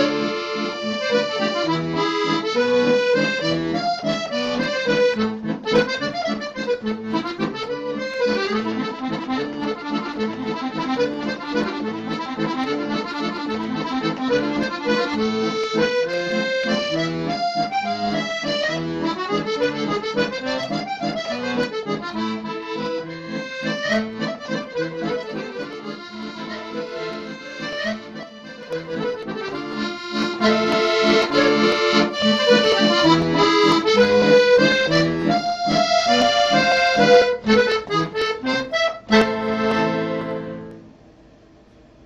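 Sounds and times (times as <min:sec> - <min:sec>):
accordion music: 0:00.0 - 0:41.0.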